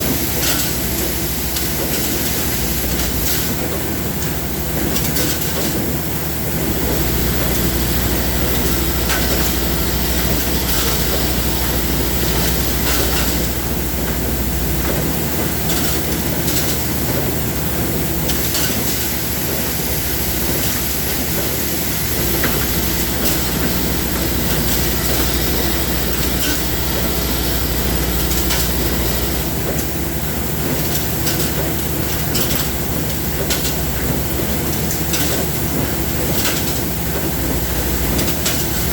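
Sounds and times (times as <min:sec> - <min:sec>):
industrial machine running: 0:00.0 - 0:38.9.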